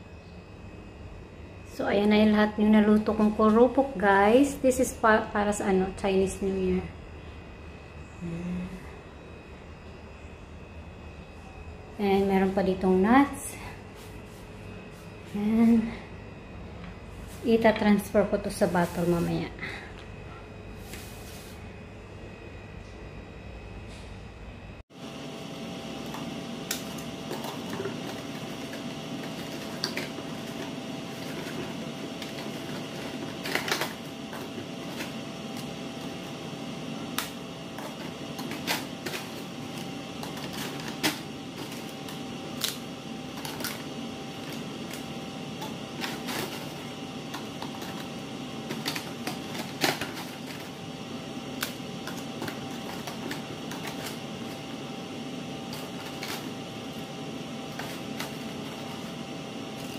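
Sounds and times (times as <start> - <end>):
steady hum: 0.0 - 59.9.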